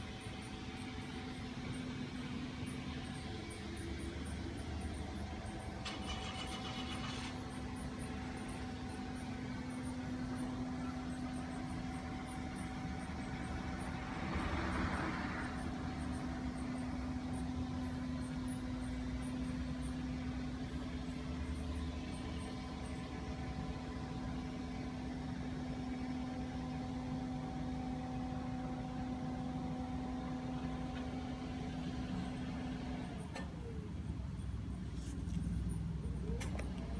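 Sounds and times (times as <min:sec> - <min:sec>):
steady mechanical hum: 0:00.0 - 0:36.9.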